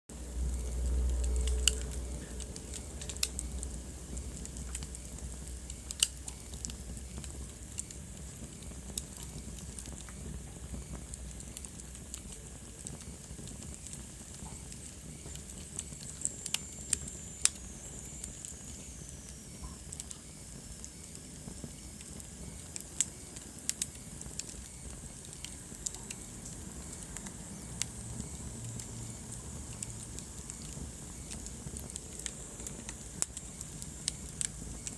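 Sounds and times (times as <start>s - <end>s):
low fire rumble: 0.1s - 34.9s
wood fire crackling and popping: 0.1s - 34.9s.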